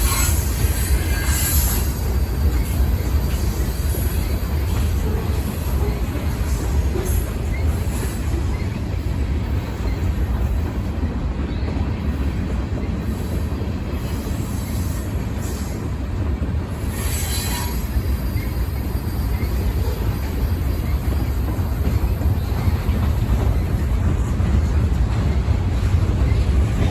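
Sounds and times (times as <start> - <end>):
freight train cars rumbling: 0.0 - 26.9
train wheel squeal: 0.0 - 26.9.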